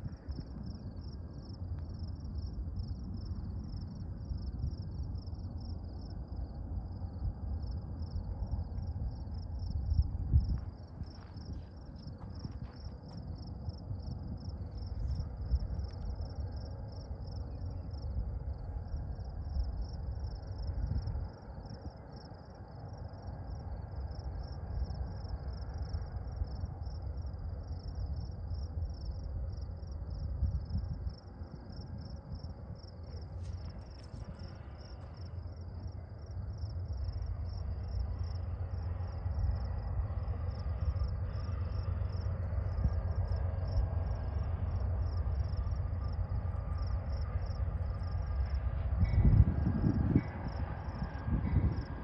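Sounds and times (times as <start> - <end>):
insects chirping: 0.0 - 52.0
low rumbling noise: 0.0 - 52.0.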